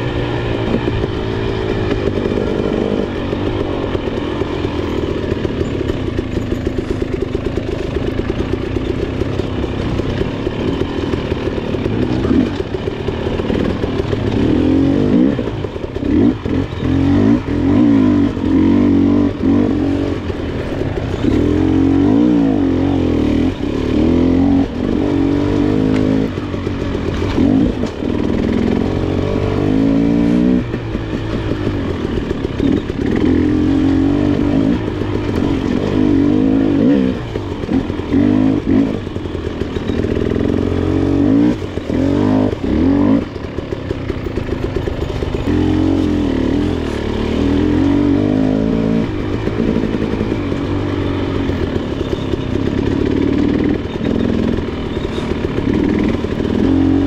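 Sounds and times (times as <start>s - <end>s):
two-stroke dirt bike engine revving: 0.0s - 57.0s.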